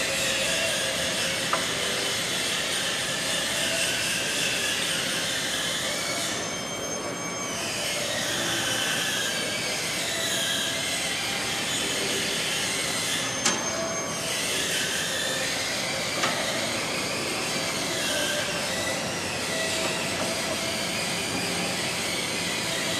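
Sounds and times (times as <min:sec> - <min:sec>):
machine whine sliding in pitch: 0:00.0 - 0:22.9.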